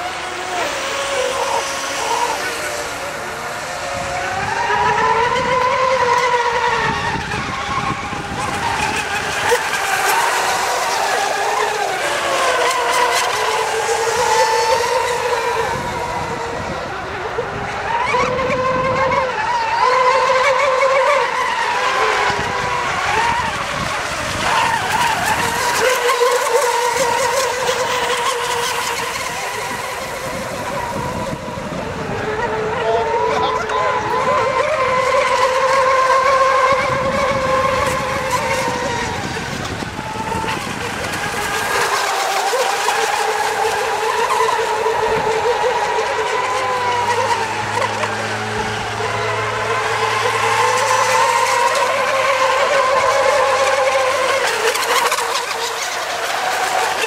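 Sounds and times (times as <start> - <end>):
rc boats high-pitched drone: 0.0 - 57.0.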